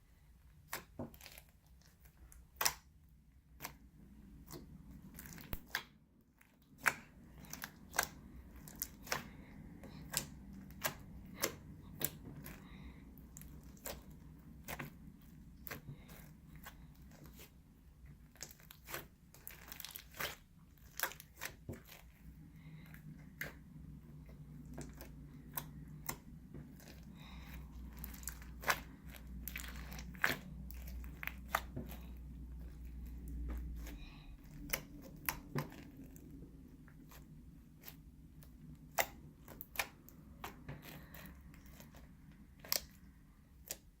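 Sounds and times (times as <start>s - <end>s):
crunchy slime squished by hand: 0.0s - 44.0s.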